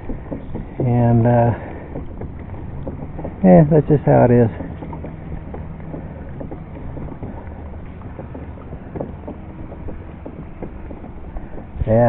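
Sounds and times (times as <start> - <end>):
small clicks and knocks: 0.0 - 12.0
water against kayak hull: 0.0 - 12.0.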